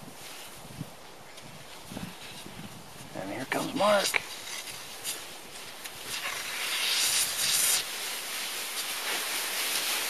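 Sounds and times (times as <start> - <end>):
snow hissing under sliding person: 0.0 - 3.0, 3.8 - 10.0.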